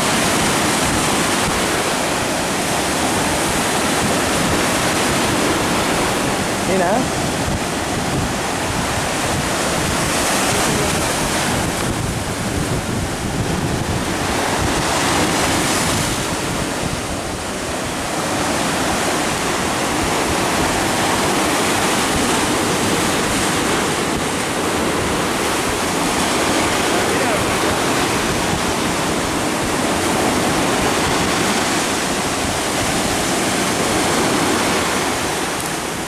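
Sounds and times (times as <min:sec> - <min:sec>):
sea surf breaking: 0:00.0 - 0:36.0
wind buffeting microphone: 0:00.0 - 0:36.0.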